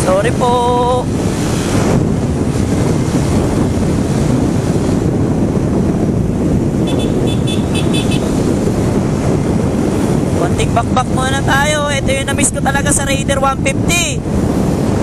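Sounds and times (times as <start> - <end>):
motorcycle road noise: 0.0 - 15.0
wind rush over microphone: 0.0 - 15.0.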